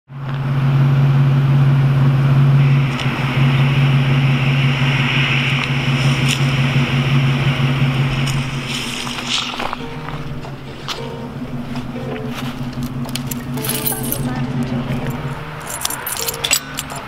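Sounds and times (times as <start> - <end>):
engine idling: 0.1 - 17.0
rushing noise: 2.6 - 17.0.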